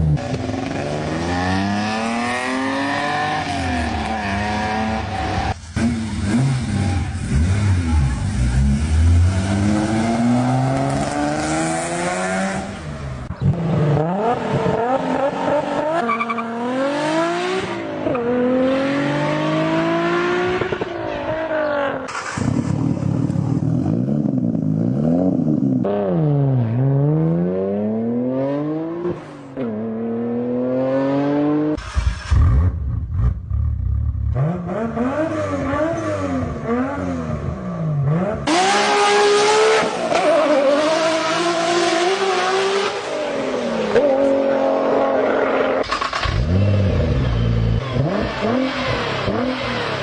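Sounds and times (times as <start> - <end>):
car engine revving and accelerating: 0.0 - 50.0.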